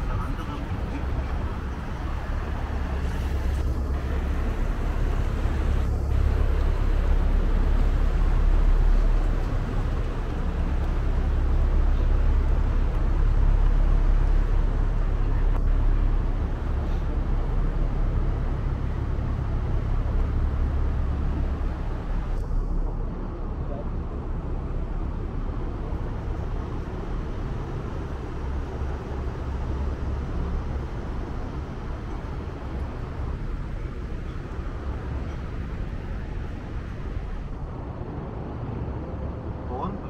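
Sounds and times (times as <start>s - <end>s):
boat engine drone: 0.0s - 40.0s
broad rushing noise: 0.0s - 40.0s.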